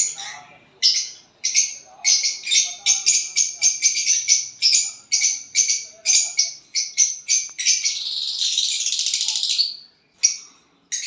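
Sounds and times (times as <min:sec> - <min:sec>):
pet bird chirping and chattering: 0:00.0 - 0:11.0.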